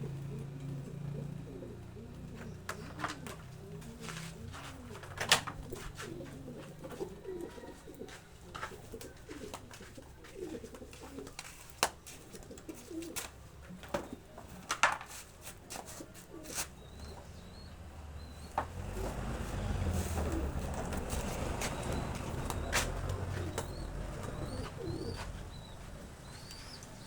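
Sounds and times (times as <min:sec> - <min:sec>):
pigeon cooing: 0:00.0 - 0:14.6, 0:15.8 - 0:27.0.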